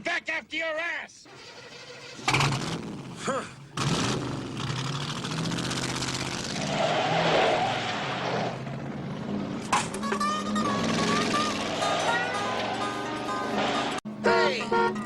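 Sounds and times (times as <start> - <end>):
tire and road noise: 1.2 - 15.0
car engine accelerating: 1.3 - 15.0.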